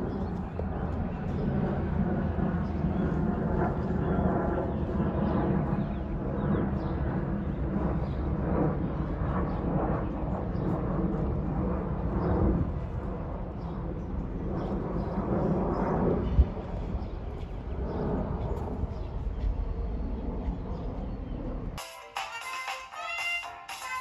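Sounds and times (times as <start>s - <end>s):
distant jet engine rumble: 0.0s - 21.8s.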